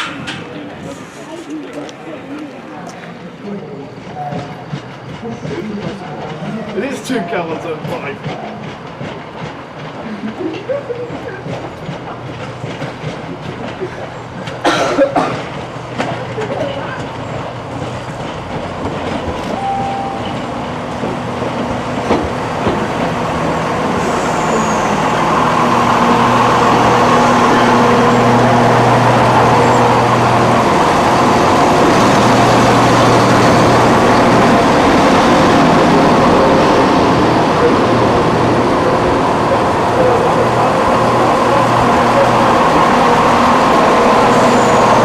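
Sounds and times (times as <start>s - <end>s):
diesel train engine: 0.0s - 45.0s.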